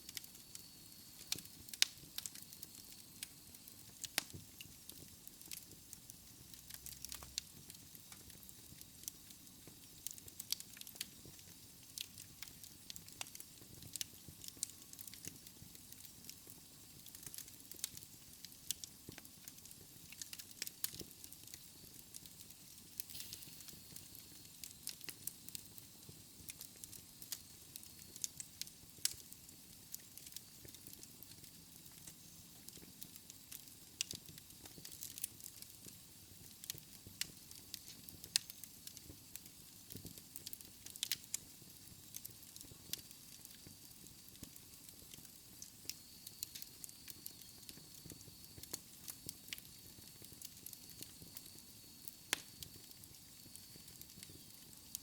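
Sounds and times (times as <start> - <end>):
flames hissing and rumbling: 0.0 - 55.0
wood fire crackling: 0.0 - 55.0.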